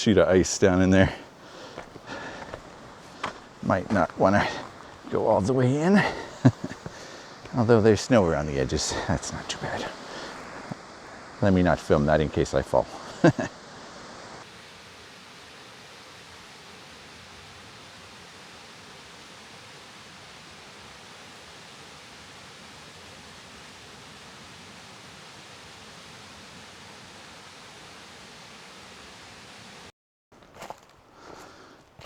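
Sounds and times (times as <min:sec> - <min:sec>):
rushing hiss of outdoor ambience: 0:00.0 - 0:32.0.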